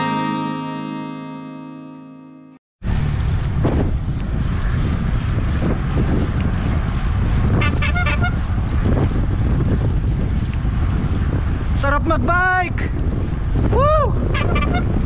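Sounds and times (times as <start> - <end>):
wind buffeting microphone: 2.8 - 15.0.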